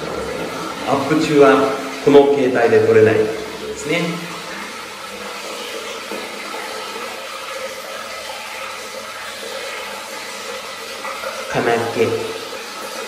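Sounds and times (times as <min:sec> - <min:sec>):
water running into a bath: 0:00.0 - 0:13.0.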